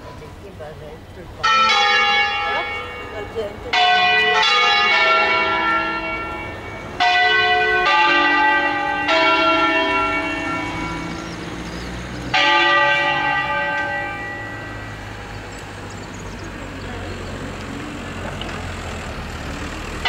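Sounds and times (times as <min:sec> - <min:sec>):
church bells clanging: 0:01.2 - 0:20.0.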